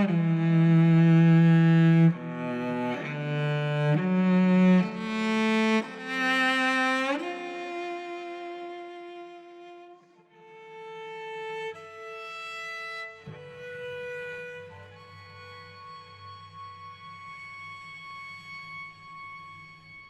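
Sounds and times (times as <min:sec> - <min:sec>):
slow bowed string music: 0:00.0 - 0:20.0.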